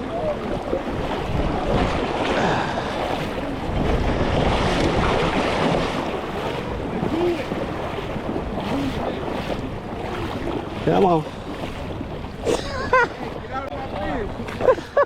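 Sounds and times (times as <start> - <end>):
river water rushing: 0.0 - 14.8
wind buffeting microphone: 0.0 - 15.0.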